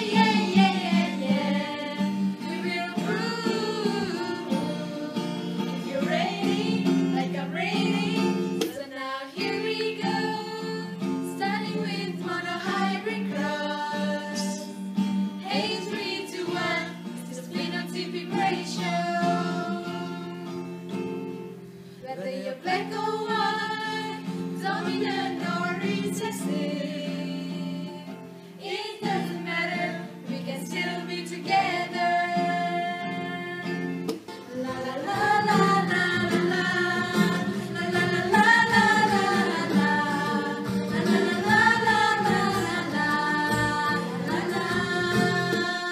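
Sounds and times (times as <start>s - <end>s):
women singing together: 0.0s - 20.7s, 22.0s - 45.9s
acoustic guitar: 0.0s - 45.9s.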